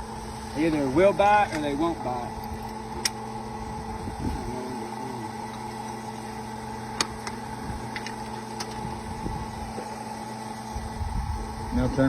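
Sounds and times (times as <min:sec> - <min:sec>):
drilling rig droning hum: 0:00.0 - 0:12.0.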